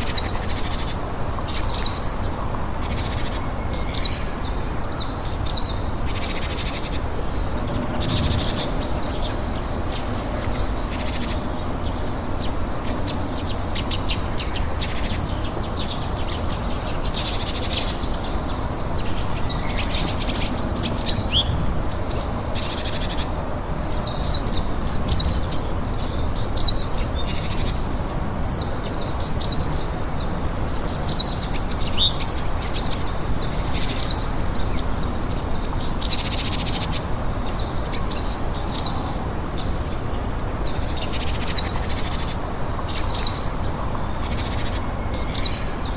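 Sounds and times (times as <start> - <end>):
songbirds chirping and singing: 0.0 - 45.9.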